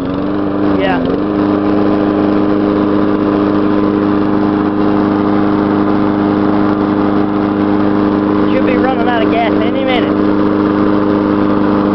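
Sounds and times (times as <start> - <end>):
lawn mower engine running: 0.0 - 11.9.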